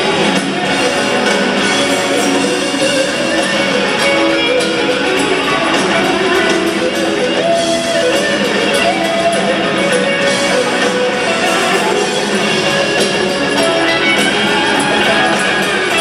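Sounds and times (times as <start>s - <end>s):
lead guitar line: 0.0s - 16.0s
rock band playing: 0.0s - 16.0s.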